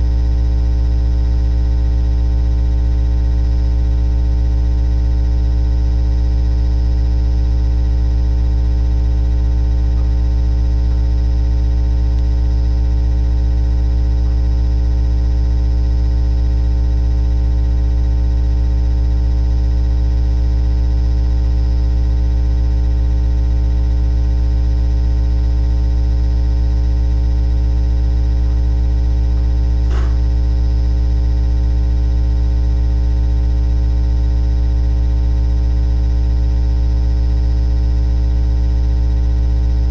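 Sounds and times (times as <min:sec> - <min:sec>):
buzzy low hum: 0:00.0 - 0:39.9.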